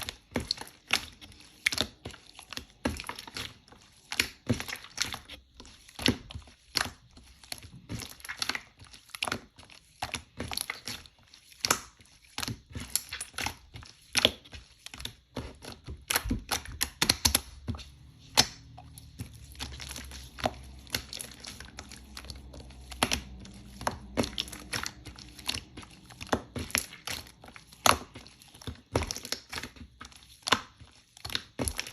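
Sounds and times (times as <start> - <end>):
slime squished by hand: 0.0 - 31.9.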